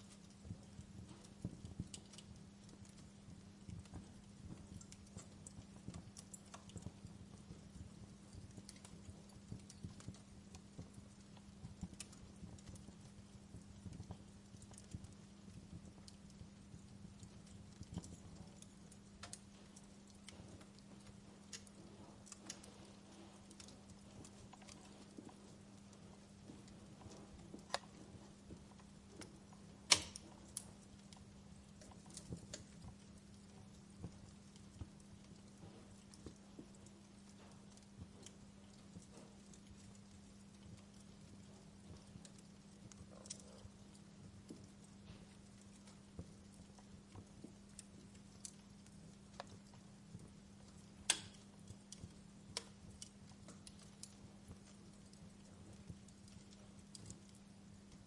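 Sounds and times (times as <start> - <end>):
fire popping: 0.0 - 58.0
wood fire crackling: 0.0 - 58.0.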